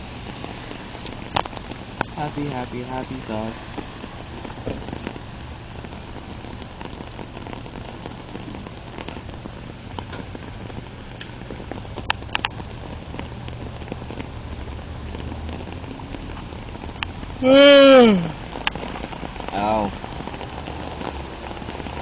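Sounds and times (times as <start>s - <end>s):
rain drops ticking: 0.0s - 22.0s.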